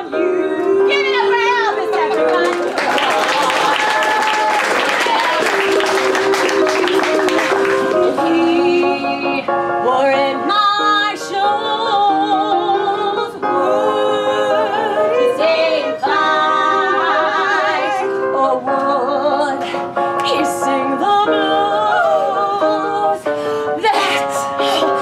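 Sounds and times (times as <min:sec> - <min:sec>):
instrumental backing music: 0:00.0 - 0:25.0
women singing with vibrato: 0:00.0 - 0:25.0.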